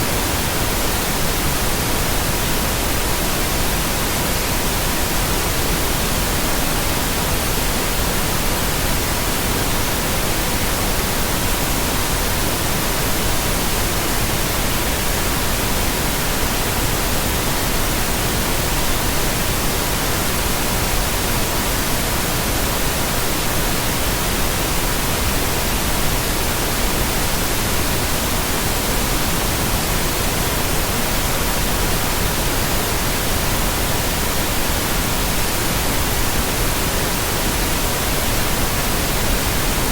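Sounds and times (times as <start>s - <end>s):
continuous pure tone: 0.0s - 39.9s
pink noise: 0.0s - 39.9s.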